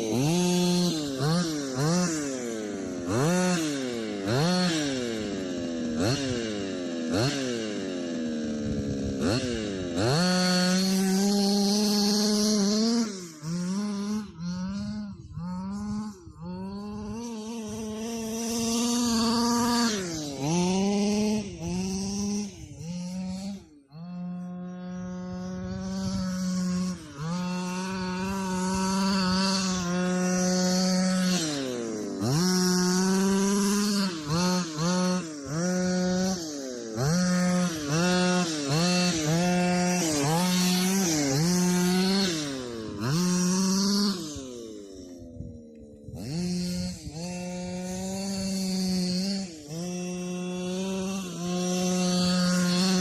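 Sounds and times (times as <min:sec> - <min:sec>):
two-stroke engine revving: 0:00.0 - 0:53.0.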